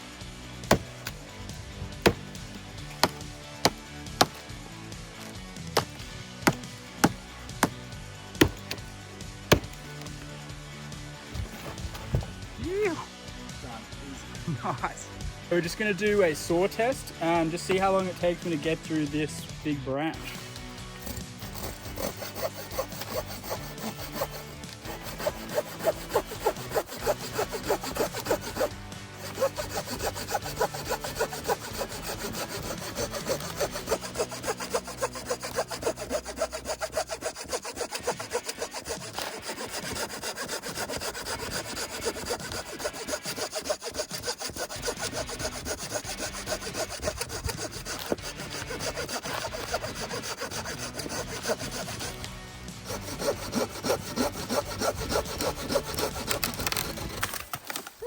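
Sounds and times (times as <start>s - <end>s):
hand saw cutting branch: 0.6s - 4.6s, 5.2s - 10.3s, 16.2s - 58.0s.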